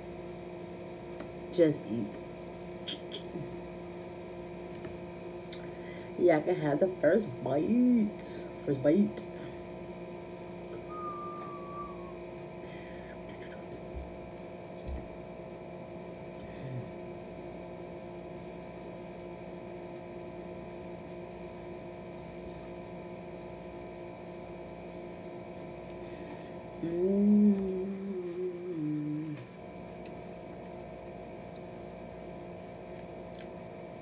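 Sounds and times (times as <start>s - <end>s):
background hum of held tones: 0.0s - 34.0s.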